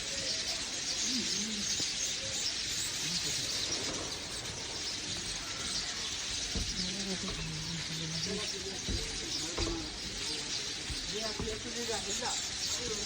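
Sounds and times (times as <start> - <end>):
low bird calls: 0.0 - 13.0
small birds chirping: 0.0 - 13.0.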